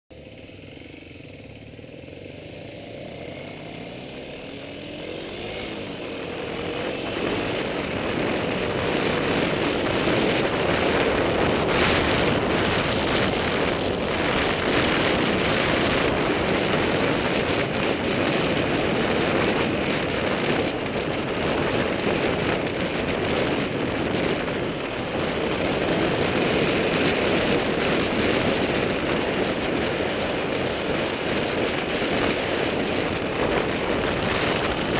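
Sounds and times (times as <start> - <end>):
motorcycle engine pulling away: 0.1 - 34.9
wind and tyre noise: 0.1 - 34.9.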